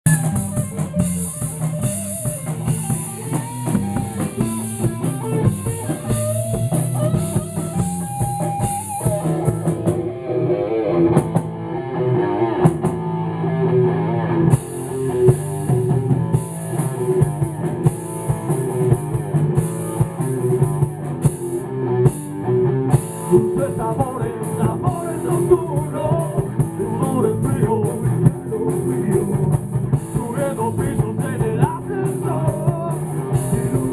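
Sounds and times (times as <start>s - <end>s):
electric guitar melody: 0.0s - 33.9s
drum kit beat: 0.1s - 10.3s, 11.1s - 11.6s, 14.5s - 33.9s.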